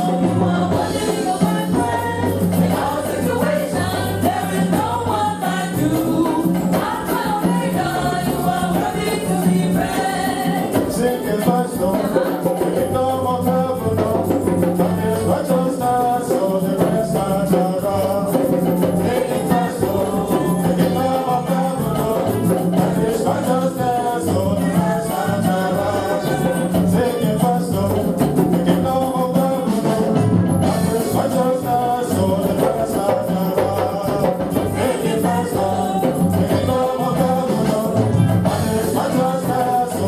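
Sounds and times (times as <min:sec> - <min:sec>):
group gospel singing: 0:00.0 - 0:40.0
jingling percussion: 0:00.0 - 0:40.0.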